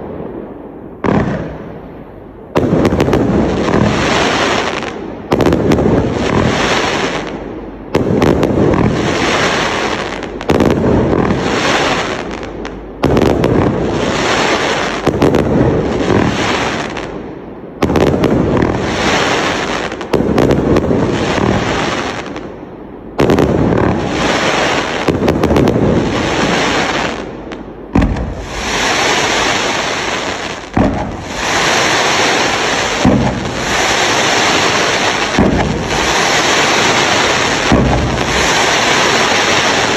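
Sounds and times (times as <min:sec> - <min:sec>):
fireworks bursts: 0:01.0 - 0:17.2, 0:17.8 - 0:22.5, 0:23.2 - 0:39.9.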